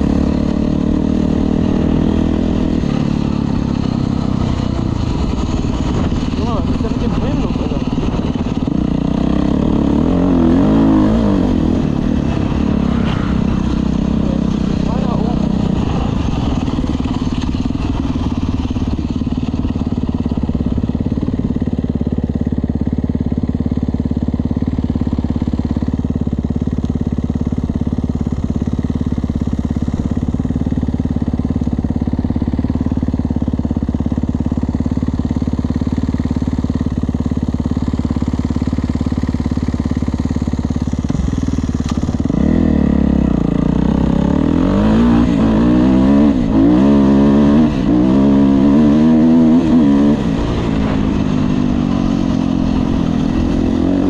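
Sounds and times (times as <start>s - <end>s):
motocross bike engine revving: 0.0s - 22.2s, 24.3s - 54.0s.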